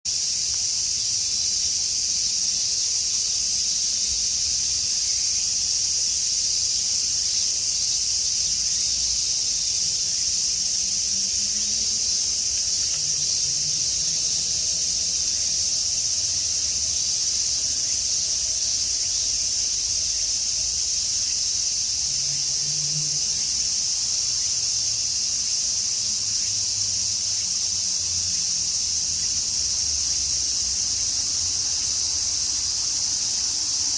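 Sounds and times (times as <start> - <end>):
cicadas shrilling: 0.1 - 33.9.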